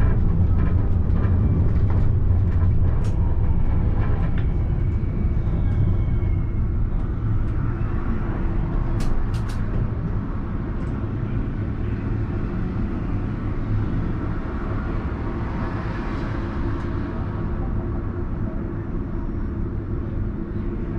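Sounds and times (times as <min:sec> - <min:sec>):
tram rumbling on track: 0:00.0 - 0:20.9.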